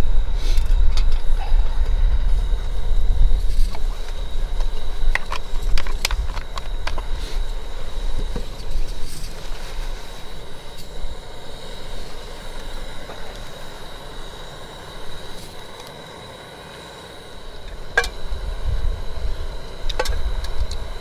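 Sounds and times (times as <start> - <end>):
background rumble and hiss: 0.0 - 21.0.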